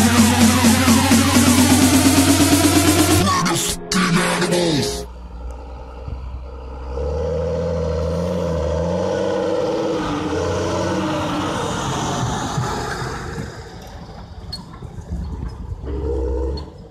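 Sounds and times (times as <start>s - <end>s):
tractor diesel engine passing: 0.0s - 15.8s.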